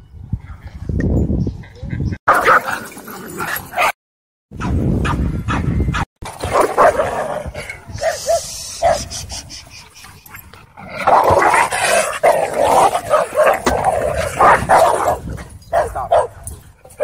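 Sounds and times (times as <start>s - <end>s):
dogs barking and snarling: 1.6s - 4.0s, 4.6s - 17.0s.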